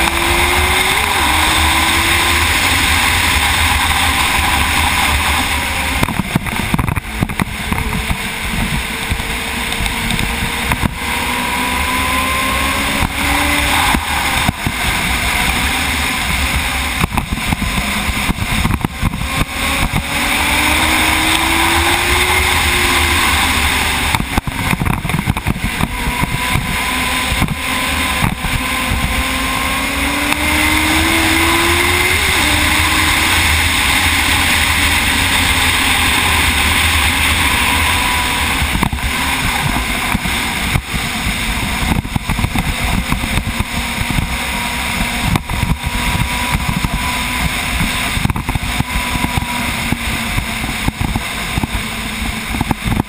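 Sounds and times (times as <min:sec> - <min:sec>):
motorcycle engine at high revs: 0:00.0 - 0:53.0
wind rushing: 0:00.0 - 0:53.0.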